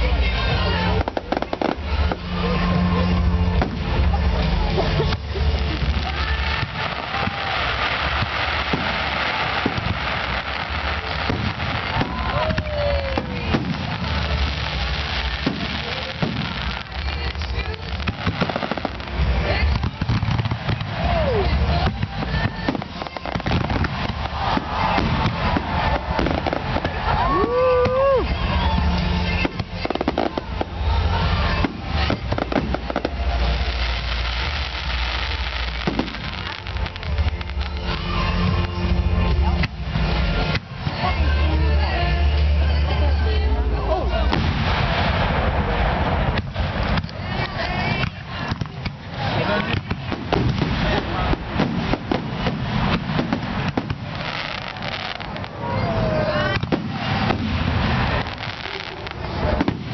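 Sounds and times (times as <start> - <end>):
fireworks booming and crackling: 0.0 - 42.9, 43.7 - 59.9.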